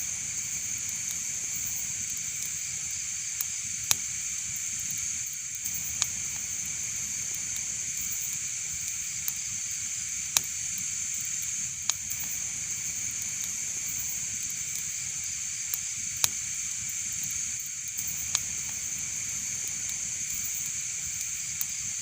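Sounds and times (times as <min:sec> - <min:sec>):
fire crackling pops: 0:00.0 - 0:22.0
wood fire hissing: 0:00.0 - 0:22.0.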